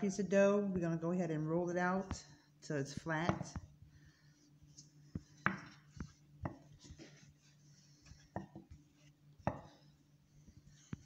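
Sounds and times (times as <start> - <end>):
rolling pin rolling dough: 2.0 - 11.0.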